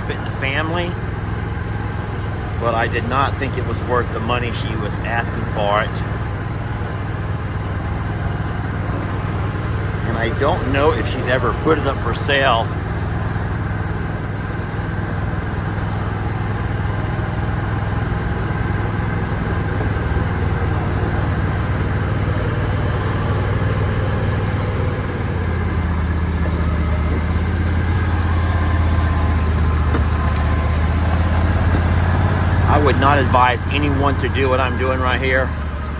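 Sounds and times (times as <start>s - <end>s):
vehicle engine humming: 0.0s - 35.9s.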